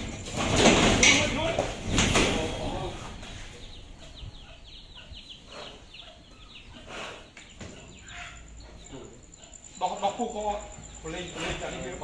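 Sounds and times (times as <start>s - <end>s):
small birds chirping: 1.2s - 12.0s.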